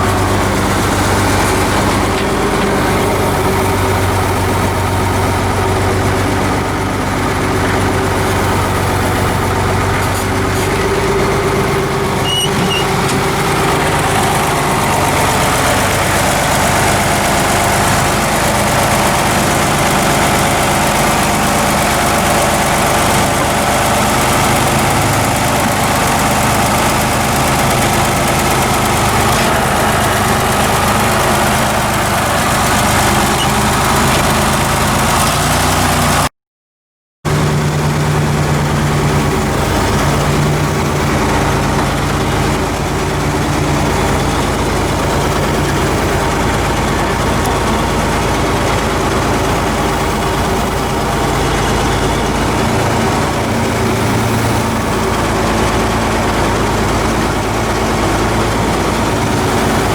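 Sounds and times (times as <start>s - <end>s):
vehicle engine running: 0.0s - 36.3s, 37.3s - 59.9s.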